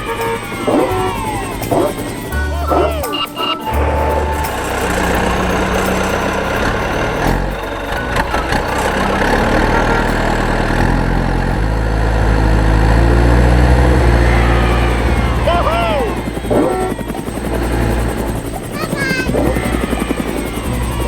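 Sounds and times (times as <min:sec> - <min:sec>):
cartoon vehicle engine rumble: 0:00.0 - 0:21.0.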